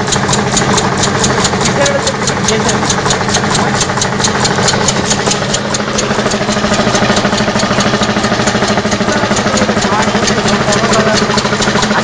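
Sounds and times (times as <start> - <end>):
air-powered engine running: 0.0 - 12.0
steady hum: 0.0 - 12.0.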